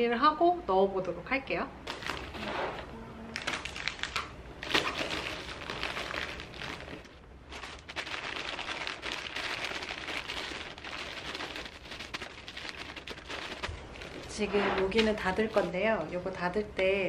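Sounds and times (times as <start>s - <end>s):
plastic packaging rustling: 1.8s - 16.1s.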